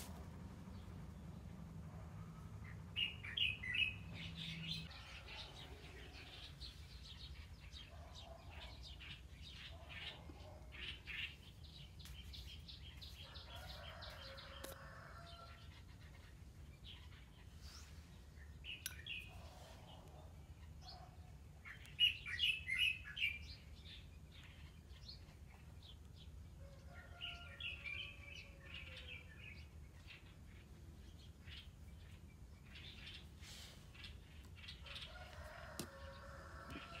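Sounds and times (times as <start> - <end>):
small birds chirping: 2.6 - 37.0.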